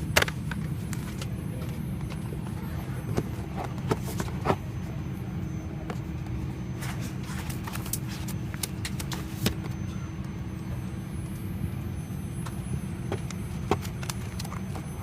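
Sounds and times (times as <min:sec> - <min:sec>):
airplane cabin hum: 0:00.0 - 0:15.0
faint steady tone: 0:00.0 - 0:15.0.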